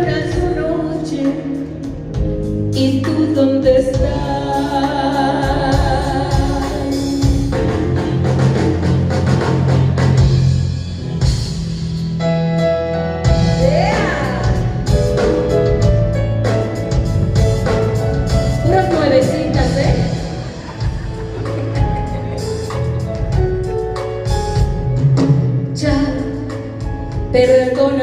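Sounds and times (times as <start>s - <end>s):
live band playing: 0.0s - 28.0s.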